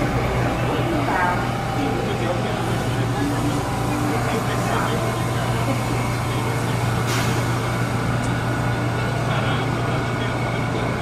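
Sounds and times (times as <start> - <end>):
subway train hum and rumble: 0.0 - 11.0.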